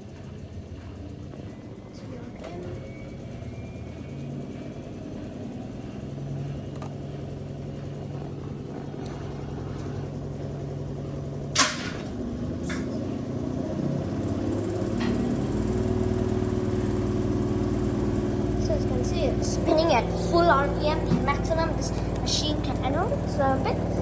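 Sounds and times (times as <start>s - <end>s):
washing machine spinning hum: 0.0s - 24.0s.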